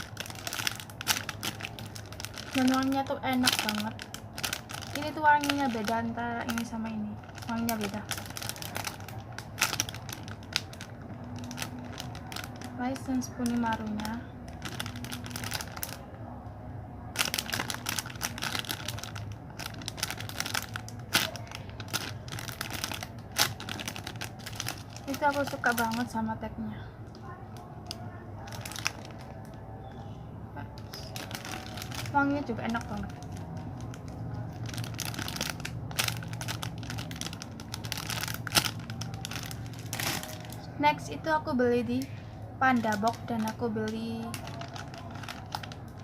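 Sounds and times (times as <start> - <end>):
plastic packaging crinkling: 0.0 - 16.2, 17.1 - 26.4, 27.2 - 41.1, 41.8 - 46.0.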